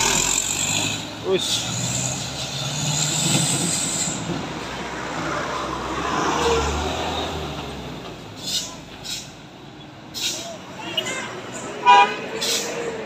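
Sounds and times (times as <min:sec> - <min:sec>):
truck diesel engine labouring: 0:00.0 - 0:13.0.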